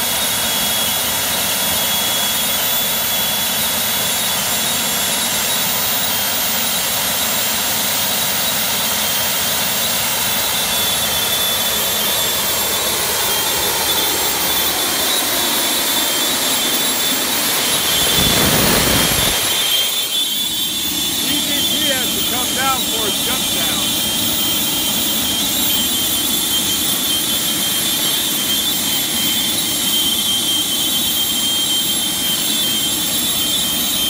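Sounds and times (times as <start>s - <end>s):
jet engine running: 0.0s - 34.0s.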